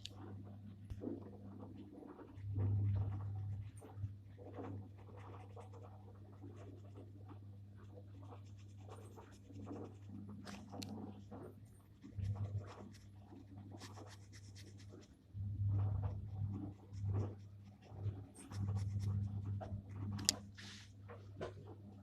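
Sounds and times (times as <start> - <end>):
steady low hum: 0.0 - 22.0
pen scratching on paper: 1.6 - 20.4.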